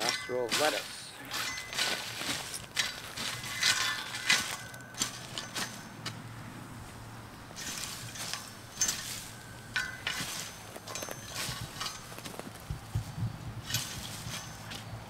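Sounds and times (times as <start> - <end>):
rake scraping through mulch: 0.0 - 6.2, 7.5 - 15.0.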